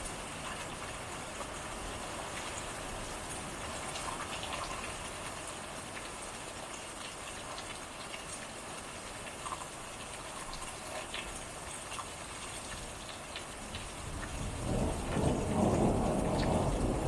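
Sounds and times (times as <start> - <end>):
rain falling on porch: 0.0 - 17.0.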